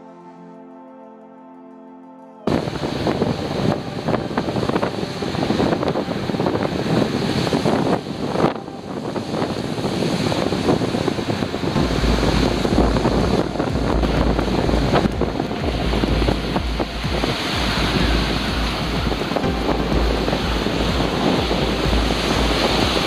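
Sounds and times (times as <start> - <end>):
surf breaking on shore: 2.5 - 23.0
wind buffeting microphone: 2.5 - 23.0.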